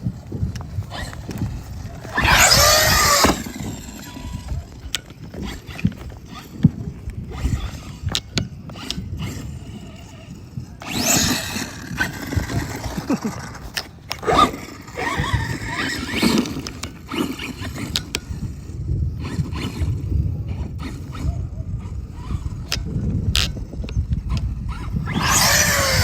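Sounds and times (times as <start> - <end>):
rc car motor whine: 0.0 - 26.0.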